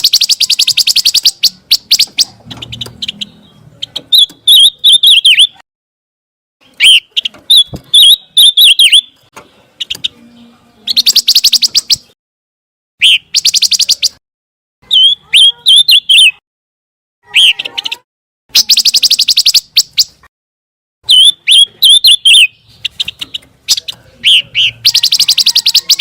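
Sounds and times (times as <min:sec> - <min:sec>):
songbird whistled chirps and trills: 0:00.0 - 0:05.6, 0:06.6 - 0:12.2, 0:13.0 - 0:14.2, 0:14.8 - 0:16.4, 0:17.2 - 0:20.3, 0:21.0 - 0:26.0.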